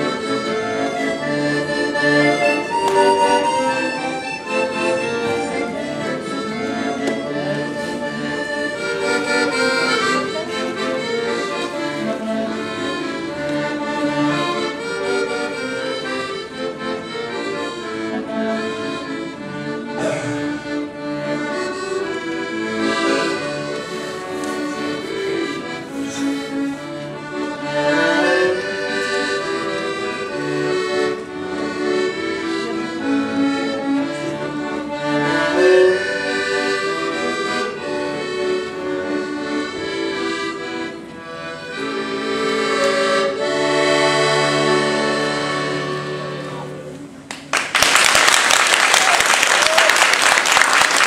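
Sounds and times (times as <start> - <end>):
piano accordion melody: 0.0 - 48.8, 50.1 - 51.0.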